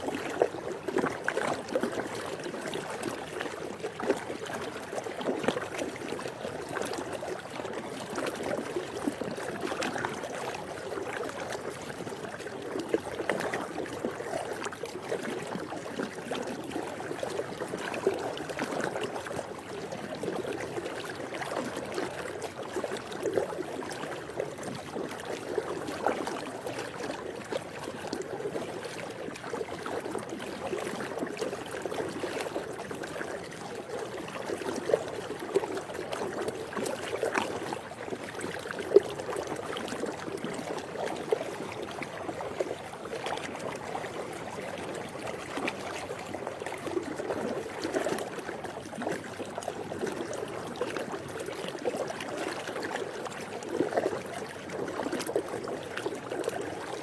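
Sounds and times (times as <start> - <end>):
pool water lapping: 0.0 - 57.0.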